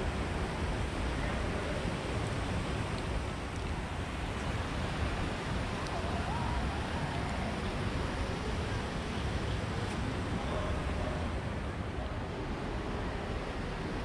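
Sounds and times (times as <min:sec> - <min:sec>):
faint distant voices: 0:00.4 - 0:14.0.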